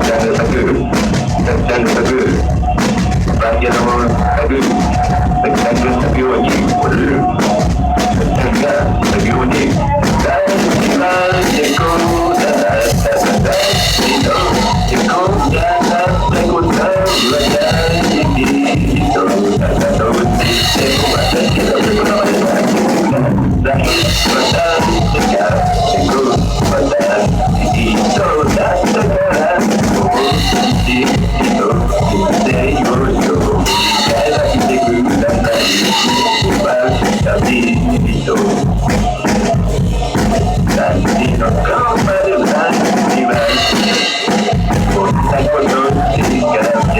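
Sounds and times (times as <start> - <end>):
drum kit played hard: 0.0 - 46.9
loud rock music: 0.0 - 46.9.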